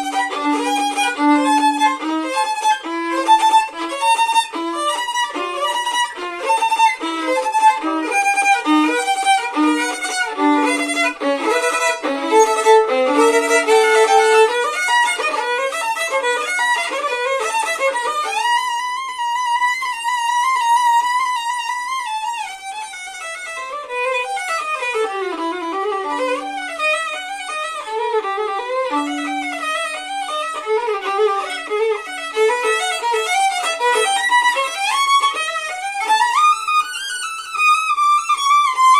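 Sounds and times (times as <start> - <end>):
solo violin playing: 0.0 - 38.9.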